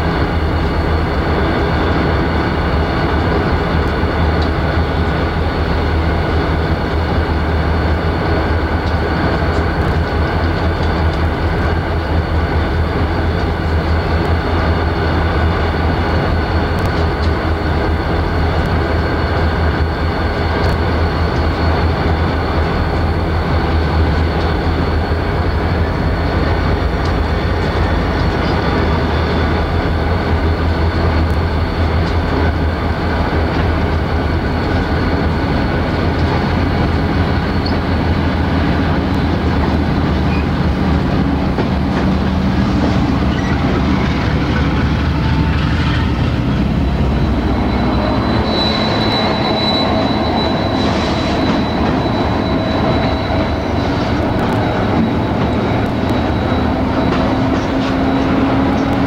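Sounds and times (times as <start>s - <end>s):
diesel locomotive engine drone: 0.0s - 59.0s
train wheel squeal: 0.0s - 59.0s.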